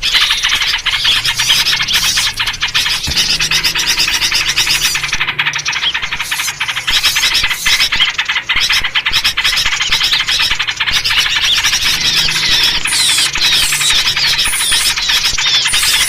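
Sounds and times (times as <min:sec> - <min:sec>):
bulbul calls: 0:00.0 - 0:16.0
songbirds chattering and chirping: 0:00.0 - 0:16.0.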